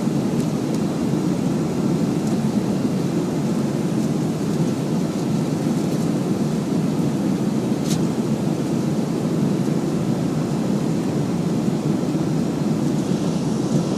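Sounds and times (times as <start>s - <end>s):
airliner cabin engine roar: 0.0s - 13.9s.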